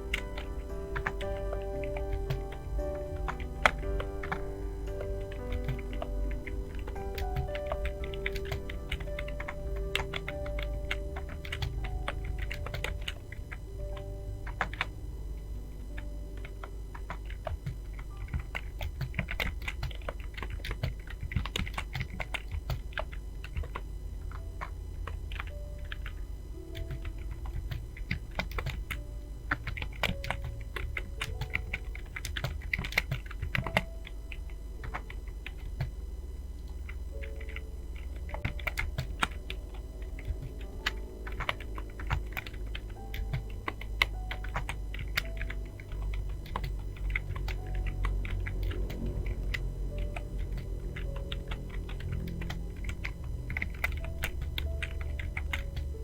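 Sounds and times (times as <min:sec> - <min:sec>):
keyboard typing clicks: 0:00.0 - 0:15.0, 0:15.7 - 0:56.0.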